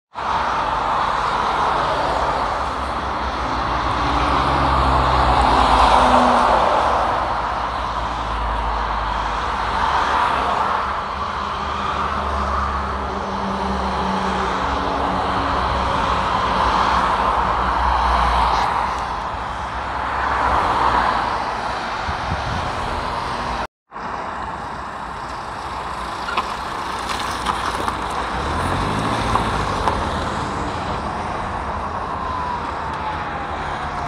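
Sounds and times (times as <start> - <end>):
road traffic passing: 0.1 - 34.0.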